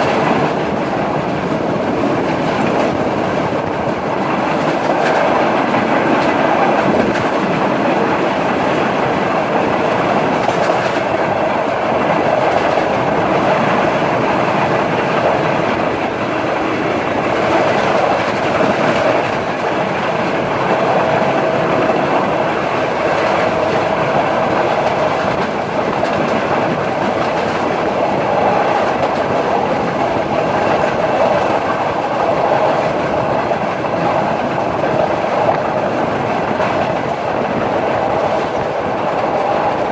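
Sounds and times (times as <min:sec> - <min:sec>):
moving train carriage rumble: 0:00.0 - 0:39.9
wheels clicking over rail joints: 0:00.0 - 0:39.9.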